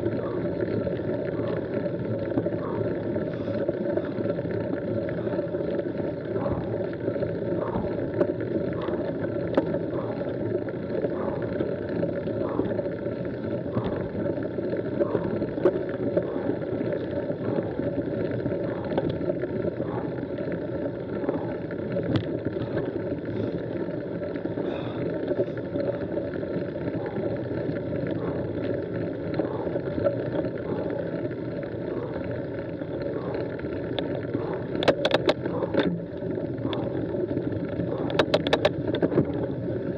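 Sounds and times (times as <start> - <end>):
faint regular ticks: 0.0 - 39.9.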